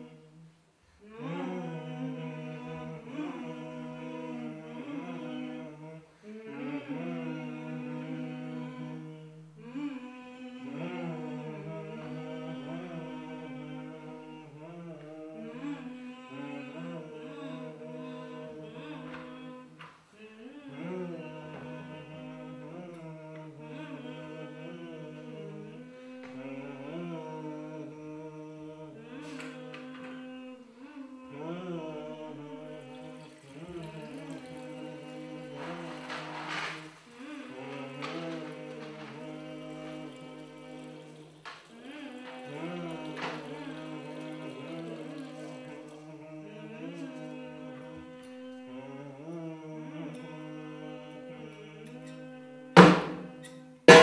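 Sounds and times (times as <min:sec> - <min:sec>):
person humming a slow melody: 0:00.0 - 0:54.0.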